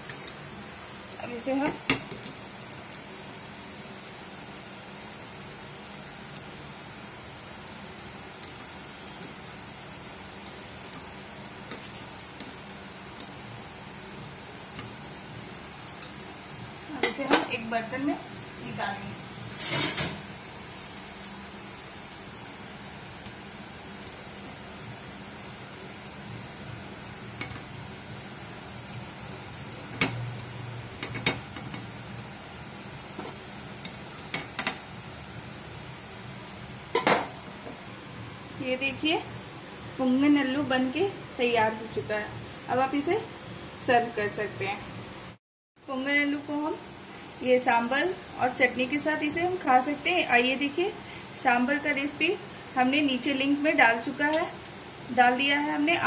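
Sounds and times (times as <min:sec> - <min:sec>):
oil sizzling: 0:00.0 - 0:56.0.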